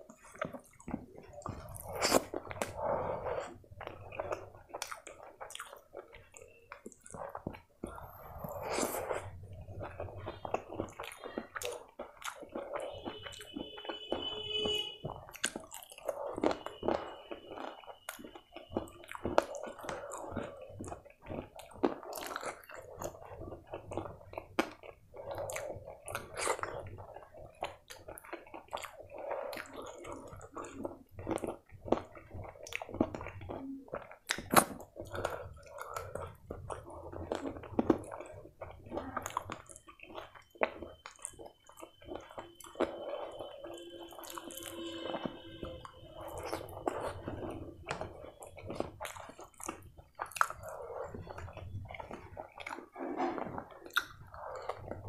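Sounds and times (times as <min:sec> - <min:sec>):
person chewing with wet mouth sounds: 0:00.0 - 0:55.0.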